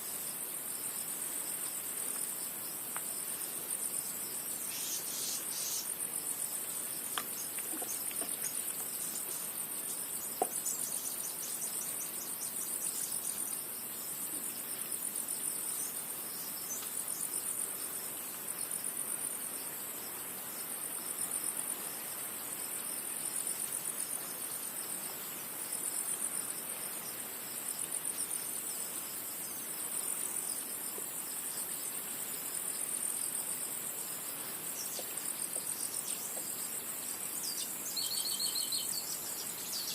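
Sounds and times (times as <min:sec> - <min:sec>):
insects chirping in chorus: 0:00.0 - 0:39.9.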